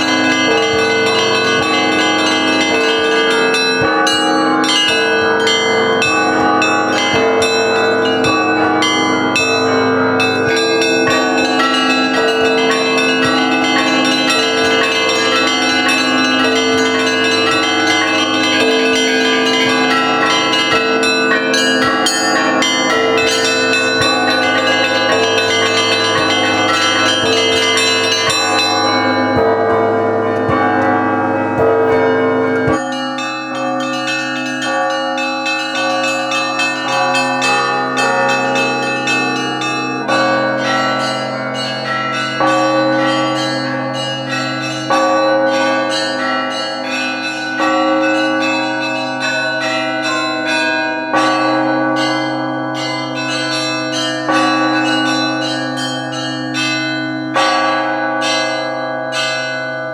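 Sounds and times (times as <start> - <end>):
deep bell striking: 0.0 - 59.8
small bells ringing quickly: 0.0 - 59.8.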